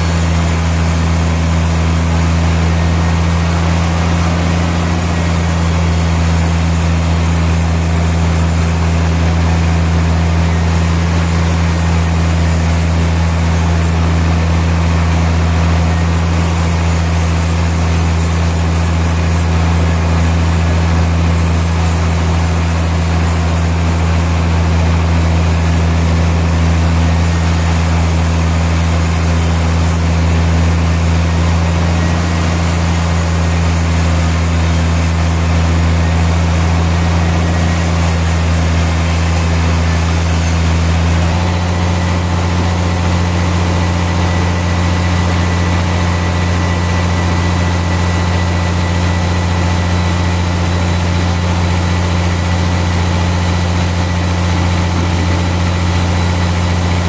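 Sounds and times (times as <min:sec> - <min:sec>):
sawmill machinery droning: 0:00.0 - 0:57.0.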